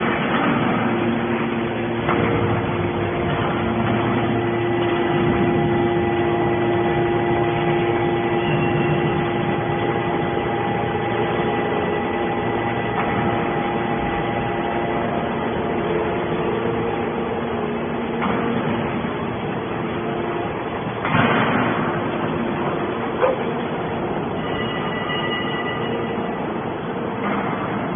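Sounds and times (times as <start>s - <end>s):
hydraulic power unit humming: 0.0s - 27.9s.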